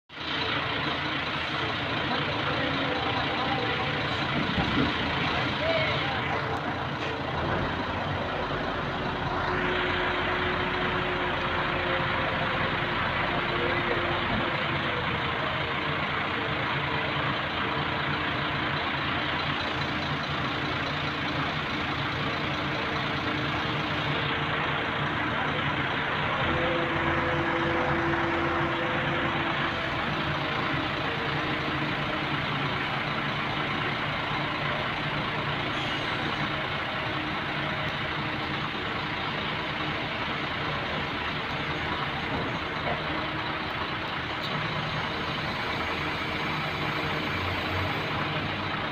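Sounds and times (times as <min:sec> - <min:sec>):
heavy vehicle engine running: 0:00.1 - 0:48.9.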